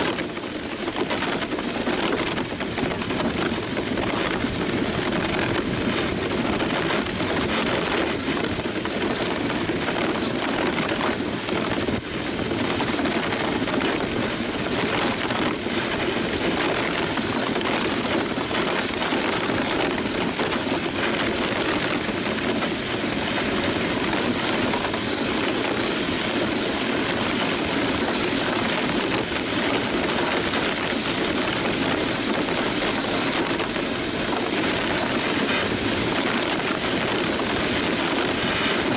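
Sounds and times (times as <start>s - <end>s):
fine crackle: 0.0s - 38.9s
steel runners rumbling over ice: 0.0s - 38.9s
wind on microphone: 0.0s - 38.9s.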